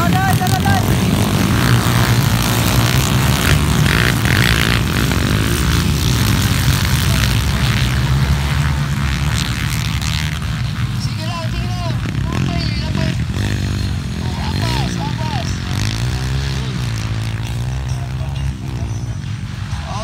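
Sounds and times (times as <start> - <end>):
motorcycles racing at high revs: 0.0 - 20.0.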